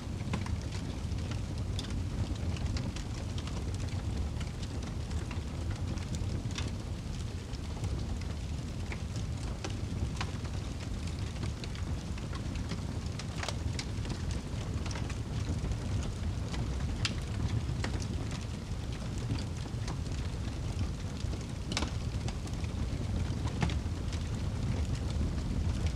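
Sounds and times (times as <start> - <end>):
fire flames rumbling: 0.0 - 25.9
logs crackling and popping: 0.1 - 25.9.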